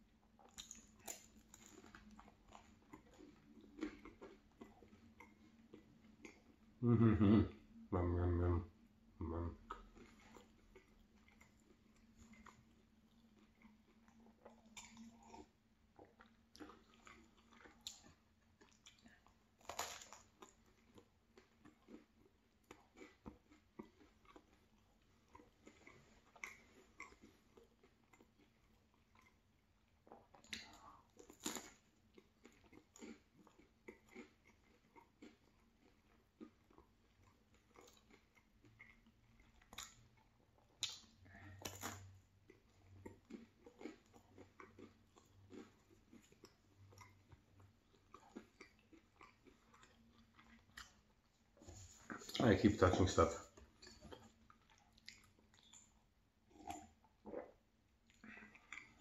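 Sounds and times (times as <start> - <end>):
wet chewing clicks and smacks: 0.3 - 6.8, 9.6 - 59.0.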